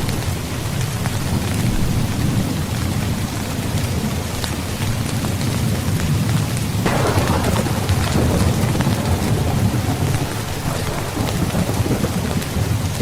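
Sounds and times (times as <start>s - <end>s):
heavy rain: 0.0s - 13.0s
thunder crack rumbling: 1.2s - 13.0s.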